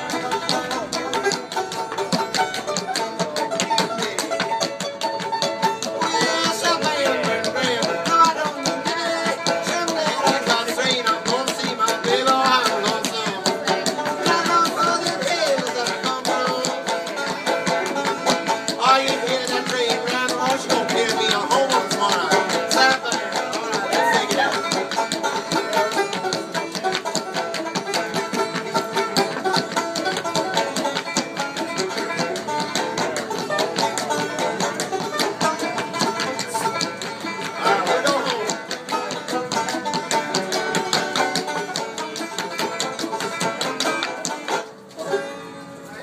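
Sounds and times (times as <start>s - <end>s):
acoustic guitar picking: 0.0s - 46.0s
banjo picking: 0.0s - 46.0s.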